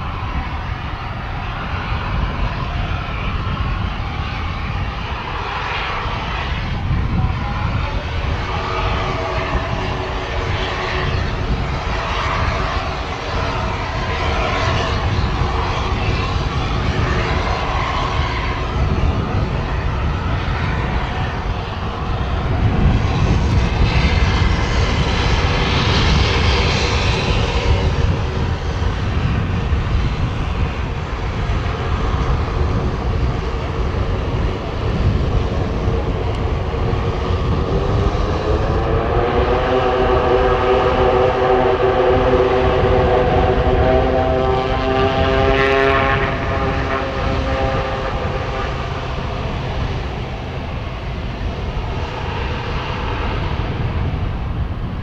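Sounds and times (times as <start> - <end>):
turboprop engines running: 0.0 - 55.0.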